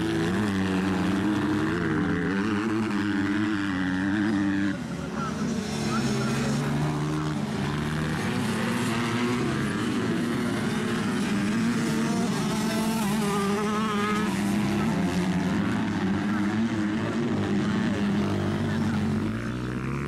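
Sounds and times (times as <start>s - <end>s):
motocross bike engines racing: 0.0s - 20.0s.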